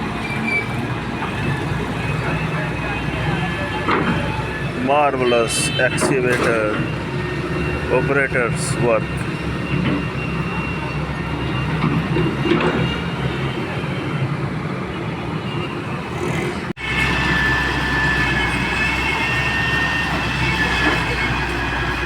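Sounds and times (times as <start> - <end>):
excavator diesel engine running: 0.0 - 14.9, 15.6 - 22.0.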